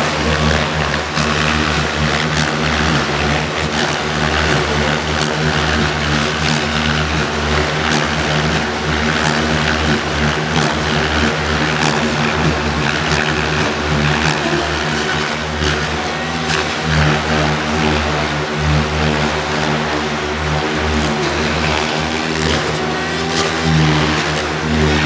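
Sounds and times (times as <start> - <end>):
model helicopter rotor whirring: 0.0 - 25.0.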